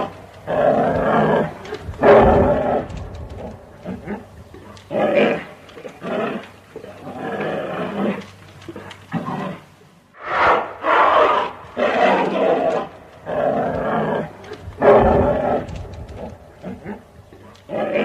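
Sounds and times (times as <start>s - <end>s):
bear calling: 0.0s - 18.0s.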